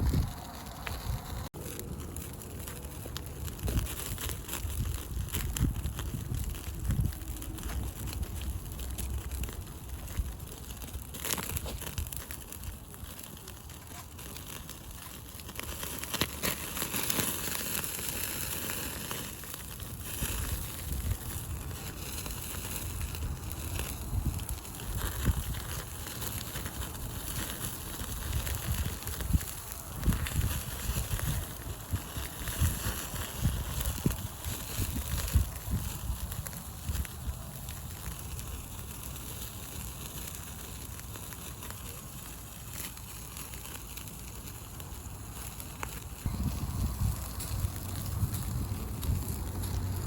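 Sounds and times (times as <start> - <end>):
campfire crackling: 0.0 - 50.0
fire pops and snaps: 0.0 - 50.0.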